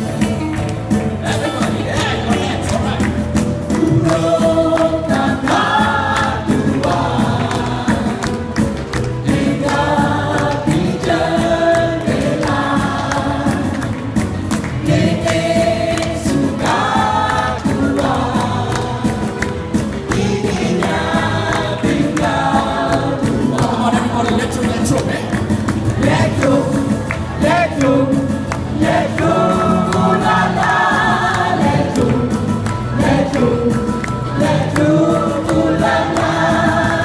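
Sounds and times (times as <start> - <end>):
musical accompaniment with steady beat: 0.0 - 37.0
group of men and women singing: 1.1 - 37.0.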